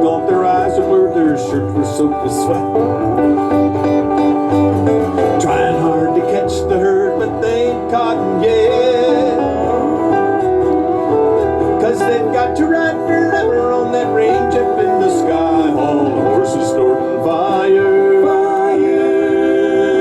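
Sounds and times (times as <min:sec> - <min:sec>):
person singing: 0:00.0 - 0:03.6, 0:04.4 - 0:20.0
live country band music: 0:00.0 - 0:20.0.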